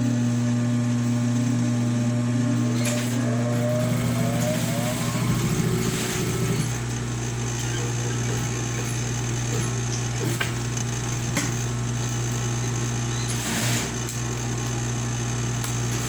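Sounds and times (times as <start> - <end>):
low machine hum: 0.0 - 13.6.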